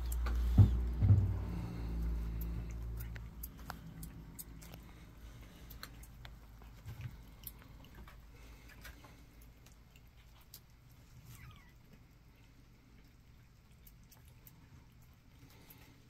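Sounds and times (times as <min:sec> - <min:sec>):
kittens playing on carpet: 0:00.0 - 0:16.0.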